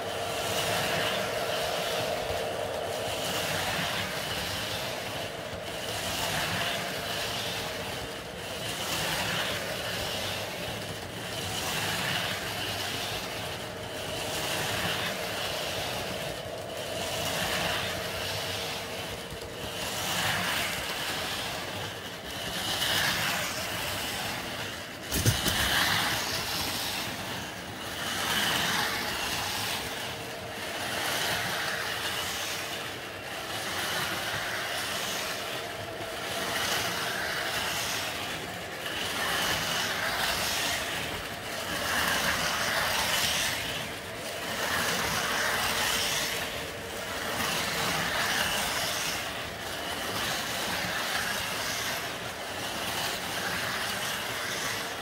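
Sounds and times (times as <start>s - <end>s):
model train rolling on track: 0.0s - 55.0s
slot car electric motors whining: 0.0s - 55.0s.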